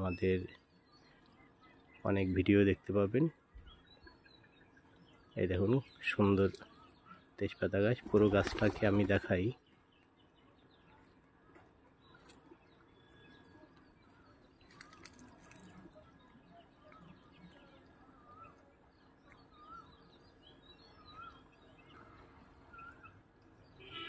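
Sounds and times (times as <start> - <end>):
distant small birds chirping: 0.0 - 24.0.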